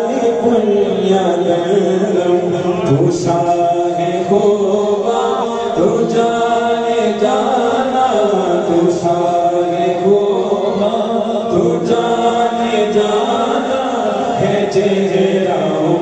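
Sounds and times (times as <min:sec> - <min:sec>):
men singing through microphones: 0:00.0 - 0:16.0.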